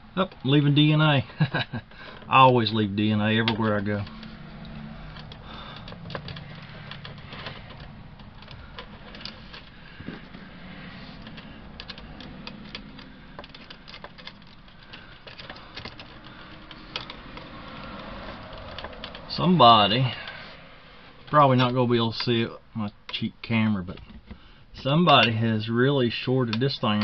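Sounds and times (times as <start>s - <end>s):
hand tool clicking on wires: 1.4s - 27.0s.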